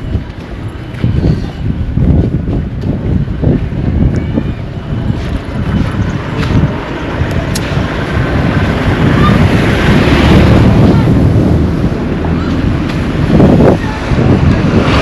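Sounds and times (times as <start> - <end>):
road traffic noise: 0.0 - 15.0
wind buffeting the microphone: 0.0 - 15.0.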